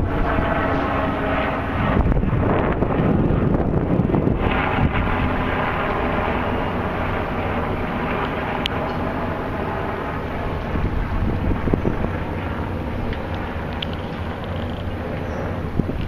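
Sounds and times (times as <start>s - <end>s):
low outdoor rumble: 0.0s - 16.0s
wind buffeting microphone: 0.0s - 16.0s.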